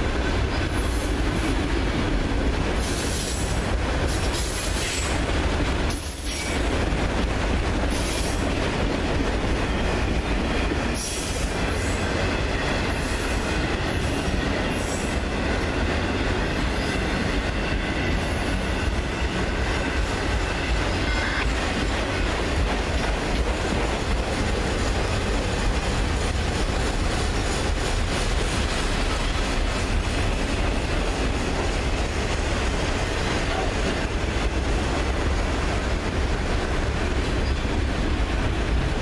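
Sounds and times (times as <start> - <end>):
freight cars rumbling on track: 0.0 - 39.0.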